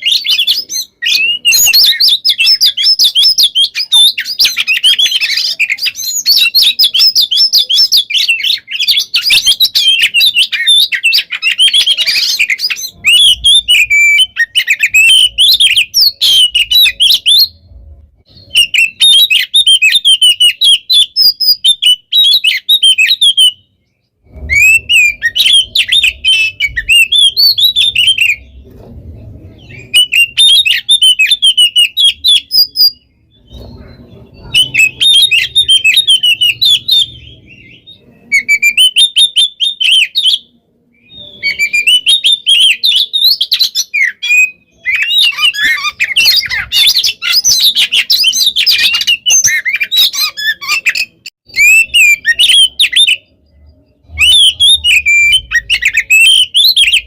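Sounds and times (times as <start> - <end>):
bird song with whistles and chatter: 0.0 - 57.0.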